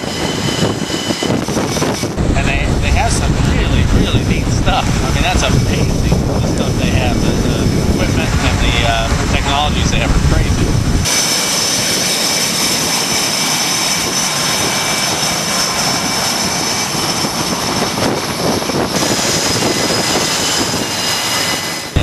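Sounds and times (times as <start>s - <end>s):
jet engine roar with whine: 0.0s - 22.0s.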